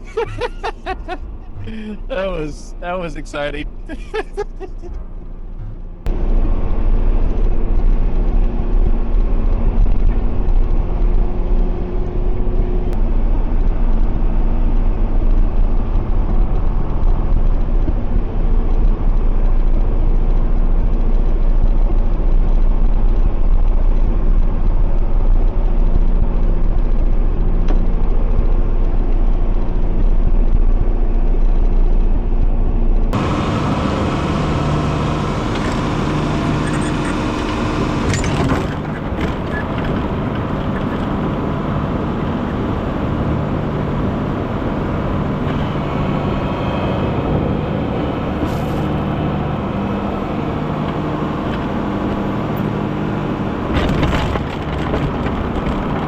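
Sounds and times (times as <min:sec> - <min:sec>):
tractor engine rumbling: 0:00.0 - 0:56.0.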